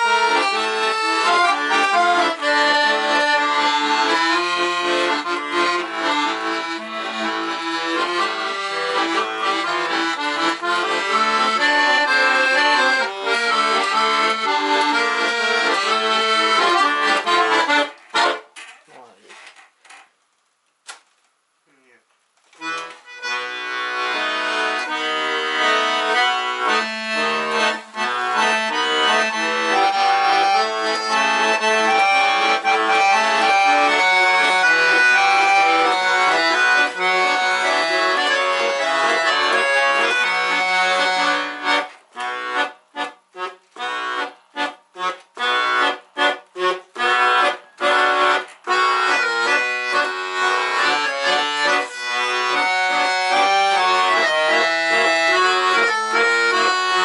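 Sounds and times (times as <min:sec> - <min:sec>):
button accordion playing: 0:00.0 - 0:18.6, 0:22.6 - 0:57.0.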